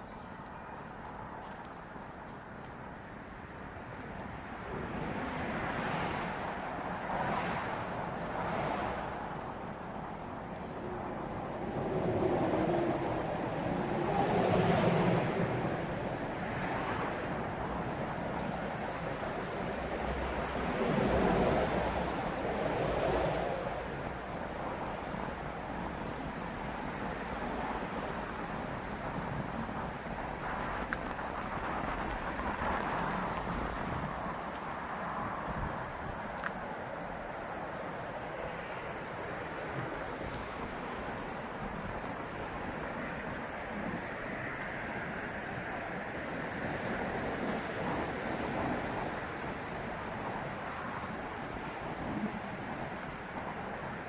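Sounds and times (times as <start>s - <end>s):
outdoor background noise: 0.0s - 54.0s
road traffic noise: 0.0s - 54.0s.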